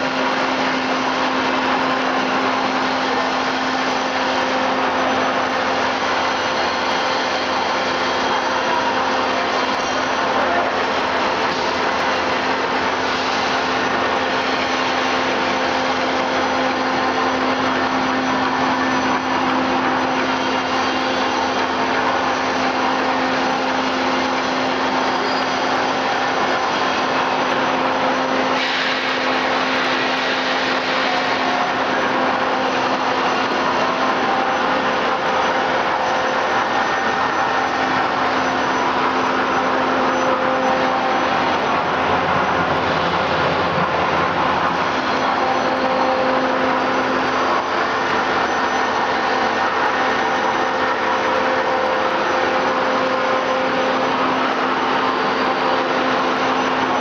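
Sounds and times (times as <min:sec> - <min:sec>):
milling machine hum and rushing: 0:00.0 - 0:57.0.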